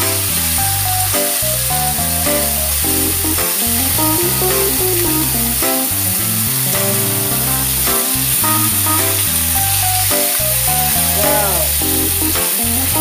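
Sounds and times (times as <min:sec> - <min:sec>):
background music: 0:00.0 - 0:13.0
chicken wings sizzling: 0:00.0 - 0:13.0.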